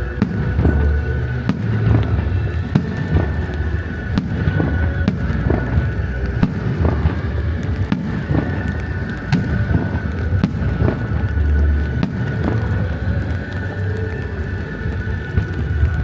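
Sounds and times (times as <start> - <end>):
fireworks bangs: 0.0 - 16.0
low rumble: 0.0 - 16.0
music playing: 0.0 - 16.0.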